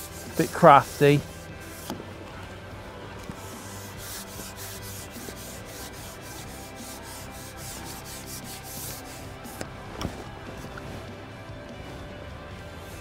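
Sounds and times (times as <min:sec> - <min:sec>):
fishing pole rubbing swishes: 0:00.0 - 0:02.1, 0:03.2 - 0:12.2.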